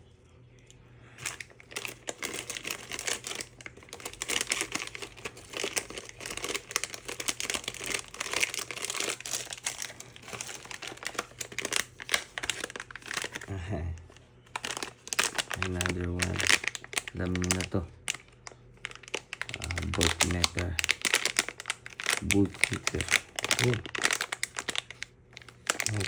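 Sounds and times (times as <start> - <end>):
packaging crinkling and rustling: 1.2 - 26.0.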